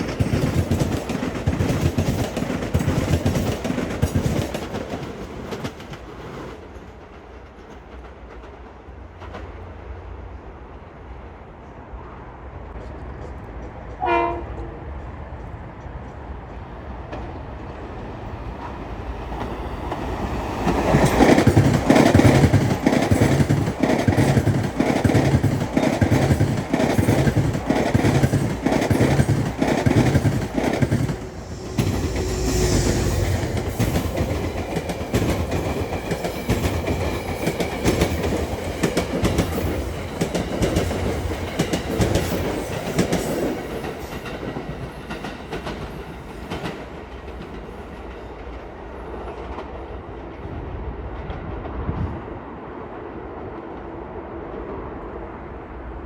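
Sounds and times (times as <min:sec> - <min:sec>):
train wheels clacking on rail joints: 0:00.0 - 0:09.7, 0:12.7 - 0:49.8
wheels rumbling on rail: 0:00.0 - 0:56.0.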